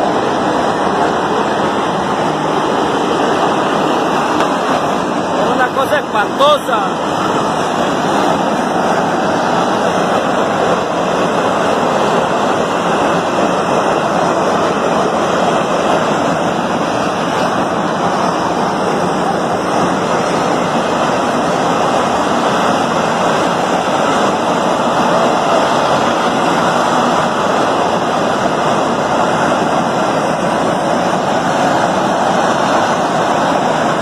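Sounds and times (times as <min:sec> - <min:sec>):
steam hissing from a pipe: 0:00.0 - 0:34.0.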